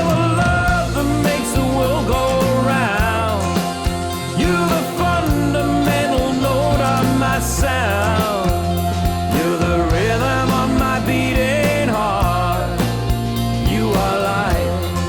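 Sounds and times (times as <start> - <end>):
drums: 0.0 - 15.0
sliding lead melody: 0.0 - 15.0
steady bass: 0.0 - 15.0.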